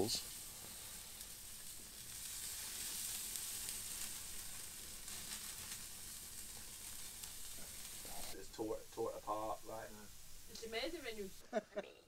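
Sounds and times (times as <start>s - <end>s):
meat sizzling on a grill: 0.0s - 11.6s
fire crackling: 0.0s - 12.0s.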